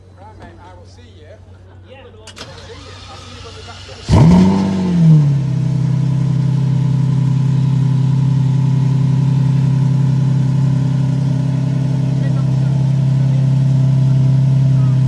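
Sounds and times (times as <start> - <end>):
car engine starting and idling: 2.2 - 15.0.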